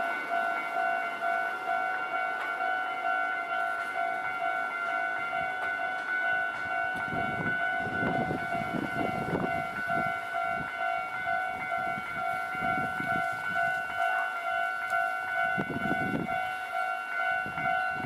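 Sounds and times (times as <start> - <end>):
level-crossing warning bell: 0.0 - 18.0
train rumbling: 0.0 - 18.0.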